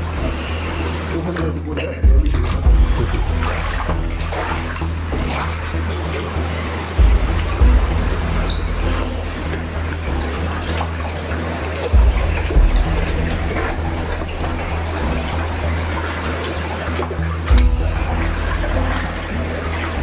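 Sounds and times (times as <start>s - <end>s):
background music with bass: 0.0s - 20.0s
water sloshing and splashing: 0.0s - 20.0s.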